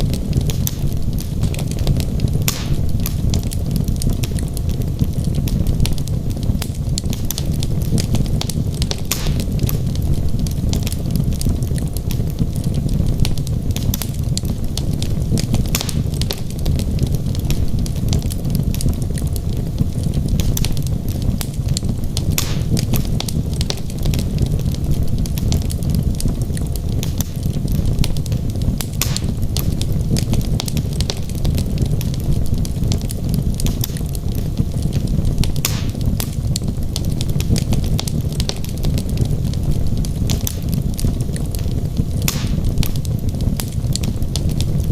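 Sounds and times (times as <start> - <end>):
fire burning with low rumble: 0.0 - 44.9
wood crackling and popping: 0.0 - 44.9.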